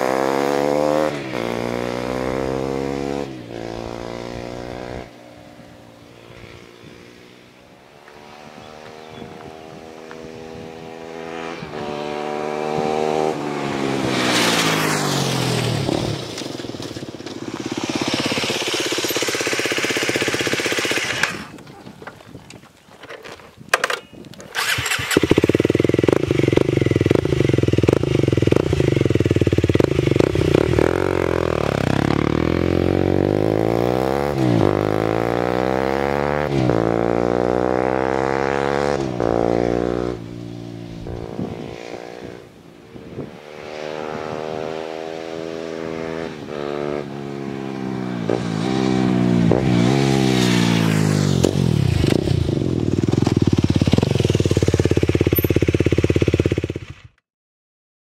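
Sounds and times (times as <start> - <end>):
motorcycle engine running and revving: 0.0 - 5.6, 8.0 - 21.7, 24.6 - 57.2
motorcycle passing by: 0.0 - 21.6, 24.6 - 57.1.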